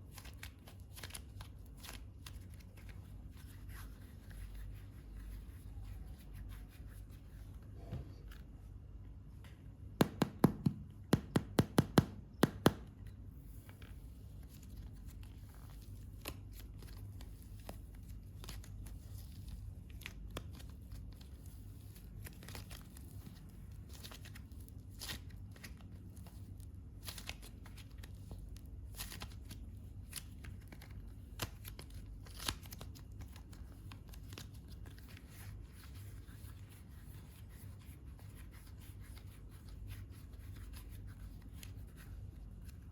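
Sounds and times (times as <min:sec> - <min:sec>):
clay rustling and clicking: 0:00.0 - 0:42.9.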